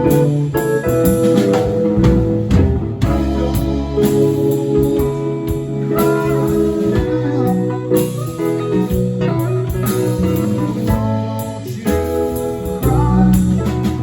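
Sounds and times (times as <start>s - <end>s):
bass and drums: 0.0s - 14.0s
lead guitar bending notes: 0.0s - 14.0s.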